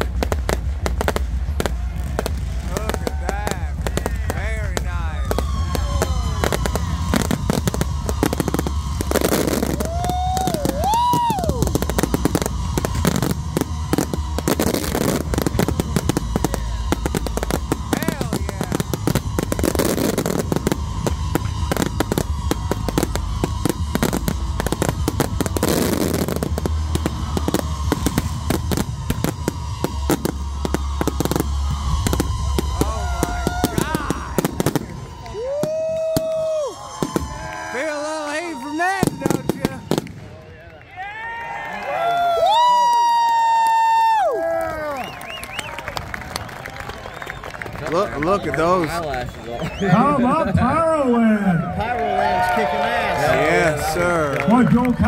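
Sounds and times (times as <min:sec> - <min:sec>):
fireworks bangs and crackling: 0:00.0 - 0:40.9, 0:41.9 - 0:55.0.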